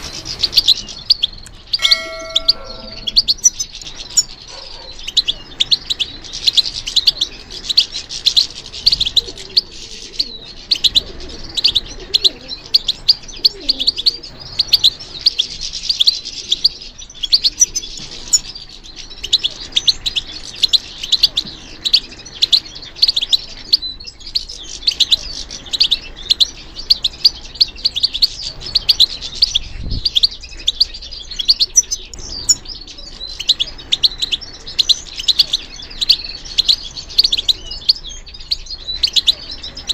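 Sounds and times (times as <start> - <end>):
finch twittering: 0.0 - 39.9.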